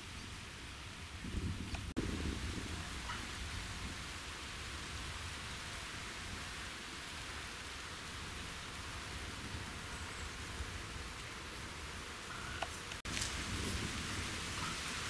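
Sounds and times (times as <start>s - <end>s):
even hiss: 0.0s - 15.0s
wind rumble on microphone: 0.0s - 15.0s.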